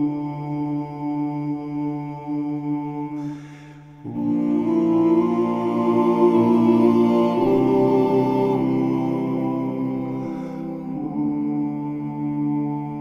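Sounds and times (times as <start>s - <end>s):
slow long-held chords: 0.0s - 13.0s.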